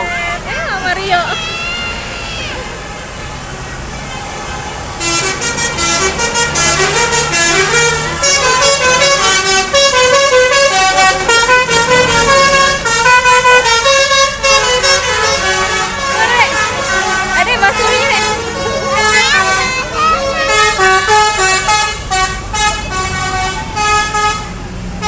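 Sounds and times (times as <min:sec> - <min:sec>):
low engine hum: 0:00.0 - 0:25.0
musical air horn playing a tune: 0:04.4 - 0:24.6.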